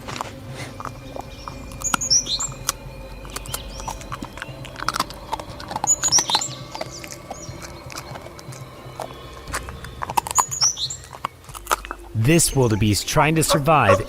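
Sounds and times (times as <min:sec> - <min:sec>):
wild dogs chirping twitters: 0:00.3 - 0:14.0.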